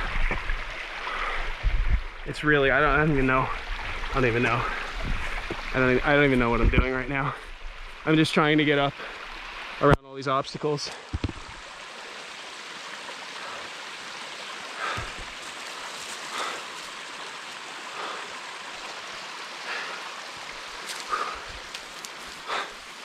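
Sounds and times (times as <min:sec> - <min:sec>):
mountain brook rushing over rock: 0:00.0 - 0:09.1, 0:12.6 - 0:23.0.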